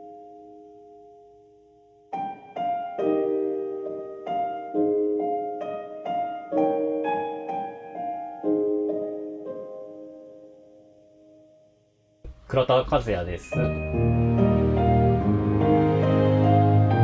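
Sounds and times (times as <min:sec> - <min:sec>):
slow gentle piano music: 0:00.0 - 0:12.2, 0:13.4 - 0:17.0.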